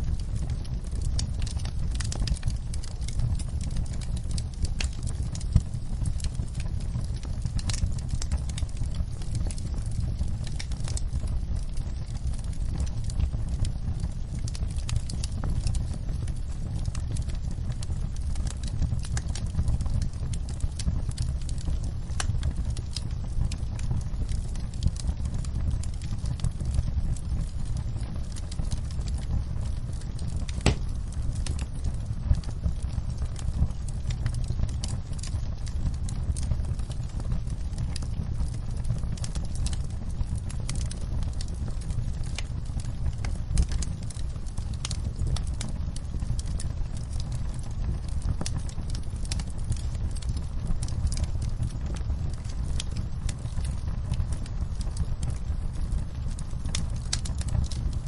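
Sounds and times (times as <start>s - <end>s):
campfire crackling and popping: 0.0s - 58.0s
low rumble of burning wood: 0.0s - 58.0s.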